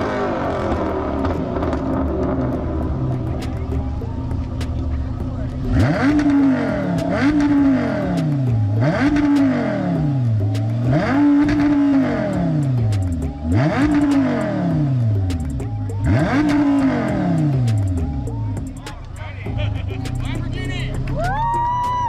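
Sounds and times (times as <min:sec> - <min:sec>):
car engine revving: 0:00.0 - 0:21.7.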